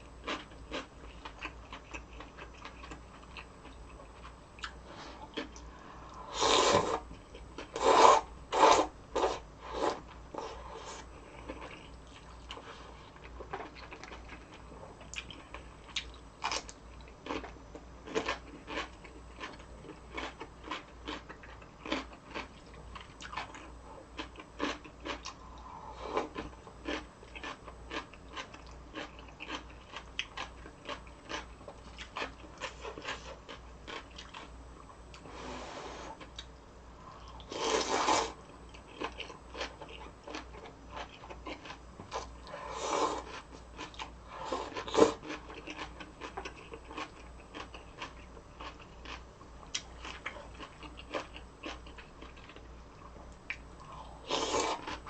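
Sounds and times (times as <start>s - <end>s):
chewing and crunching: 0.1s - 7.9s, 8.5s - 35.3s, 37.1s - 55.0s.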